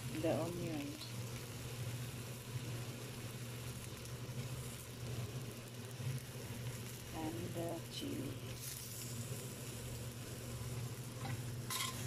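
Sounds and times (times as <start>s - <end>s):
low steady hum: 0.0s - 12.0s
onions sizzling in oil: 0.0s - 12.0s.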